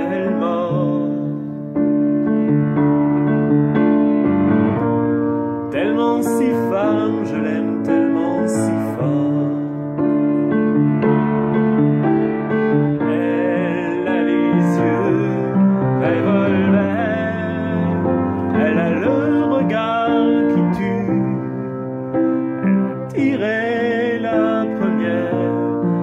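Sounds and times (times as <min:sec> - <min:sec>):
piano playing slow ballad: 0:00.0 - 0:26.0.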